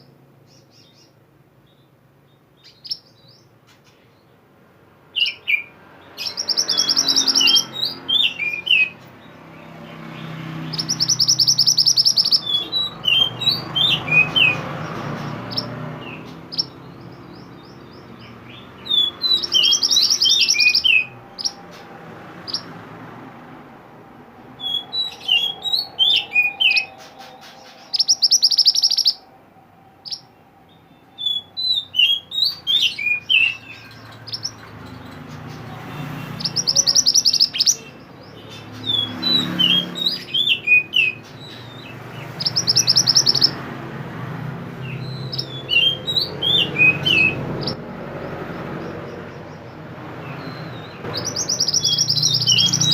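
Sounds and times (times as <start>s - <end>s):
songbird chirps and buzzy trill: 0.0s - 23.4s, 24.4s - 47.8s, 48.8s - 52.9s.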